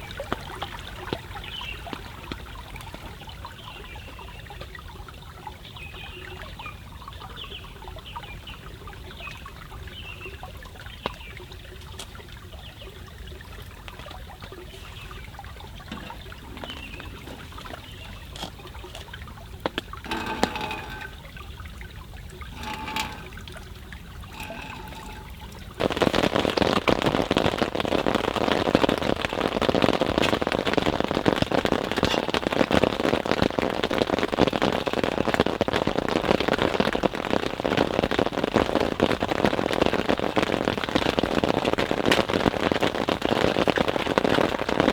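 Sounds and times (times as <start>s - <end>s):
stream trickling and gurgling: 0.0s - 44.9s.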